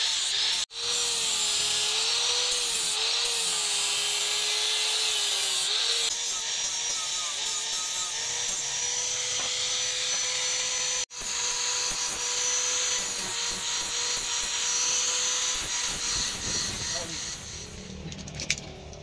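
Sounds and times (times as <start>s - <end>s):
angle grinder grinding steel: 0.0s - 18.1s.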